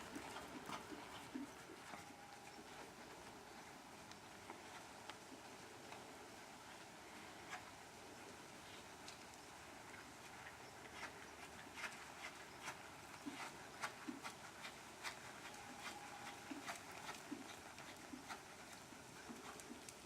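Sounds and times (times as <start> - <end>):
horse hoofbeats: 0.0 - 6.0, 9.8 - 20.0.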